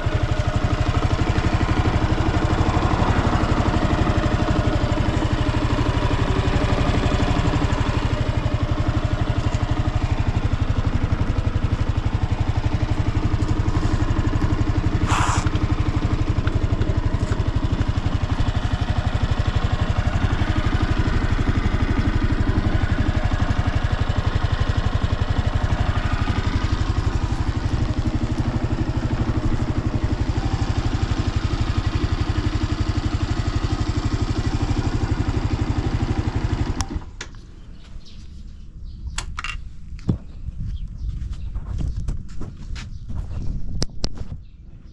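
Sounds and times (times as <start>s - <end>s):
scooter engine idling: 0.0s - 40.8s.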